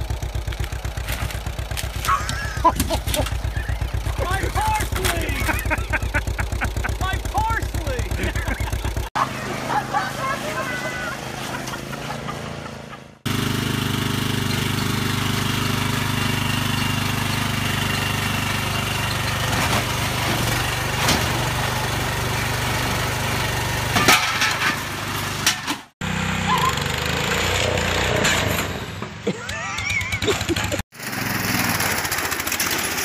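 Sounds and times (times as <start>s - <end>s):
lawn mower engine running: 0.0s - 33.0s
lawn tractor engine running: 0.0s - 33.0s.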